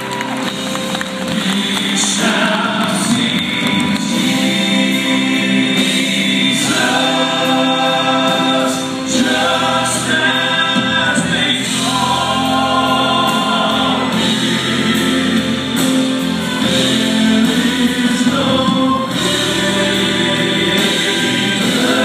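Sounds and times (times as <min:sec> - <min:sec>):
piano: 0:00.0 - 0:22.0
male quartet singing in harmony: 0:00.8 - 0:22.0.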